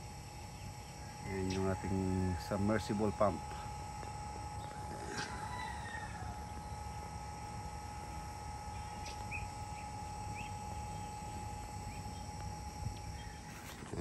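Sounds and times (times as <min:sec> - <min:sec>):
submersible pump humming: 0:00.0 - 0:14.0.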